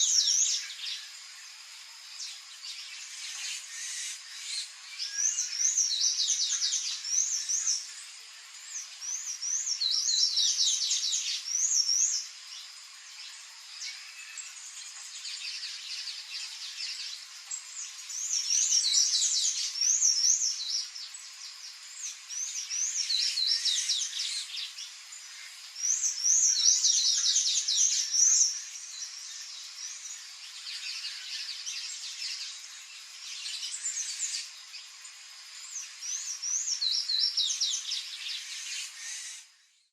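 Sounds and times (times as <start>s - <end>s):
songbirds singing and chirping: 0.0s - 39.9s
steady background hiss: 0.0s - 39.9s.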